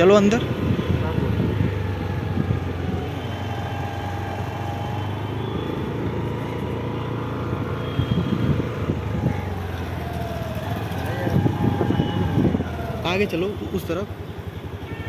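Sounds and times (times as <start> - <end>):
road rumble: 0.0 - 15.0
wind: 0.0 - 15.0
motorbike engine running: 0.8 - 15.0.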